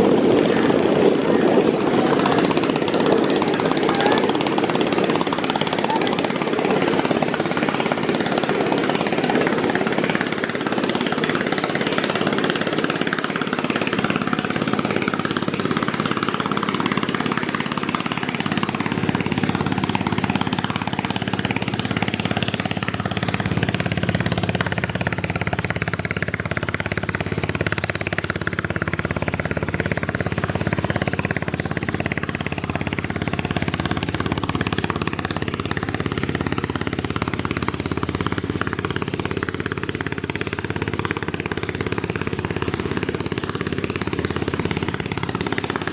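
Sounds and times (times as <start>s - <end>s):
boat engine rumbling: 0.0s - 45.9s.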